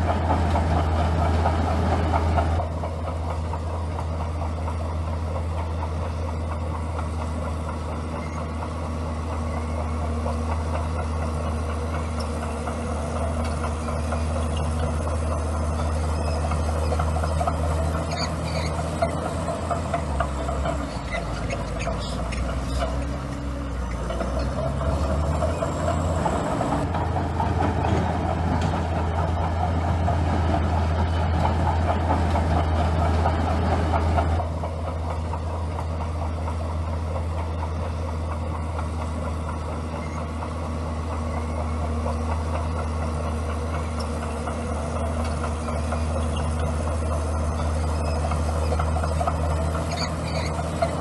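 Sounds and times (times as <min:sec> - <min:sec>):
bulldozer diesel engine running: 0:00.0 - 0:51.0.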